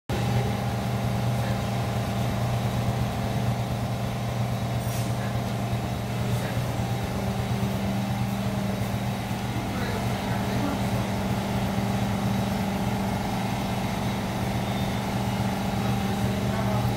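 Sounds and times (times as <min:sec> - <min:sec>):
motorcycle engine idling: 0:00.1 - 0:16.9.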